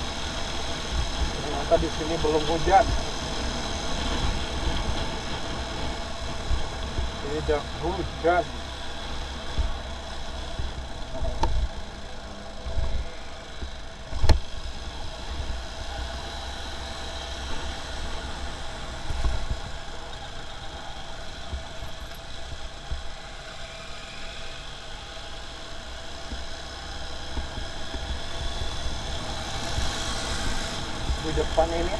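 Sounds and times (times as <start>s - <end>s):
motorcycle engine at low revs: 0.0s - 31.9s.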